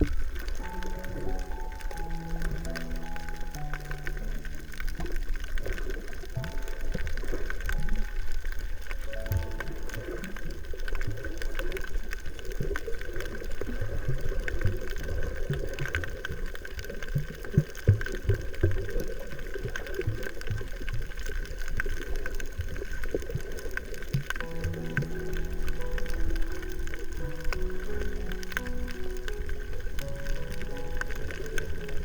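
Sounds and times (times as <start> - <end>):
water gurgling and bubbling: 0.0 - 32.0.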